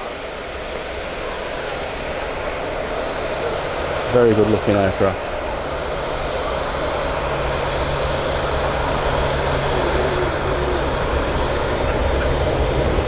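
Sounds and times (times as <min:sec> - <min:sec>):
jet airliner taxiing: 0:00.0 - 0:13.0.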